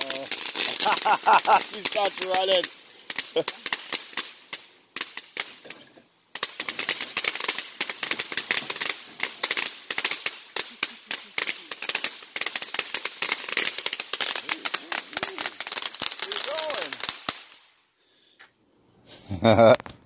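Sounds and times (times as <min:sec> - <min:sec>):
firecracker pops: 0:00.0 - 0:17.6.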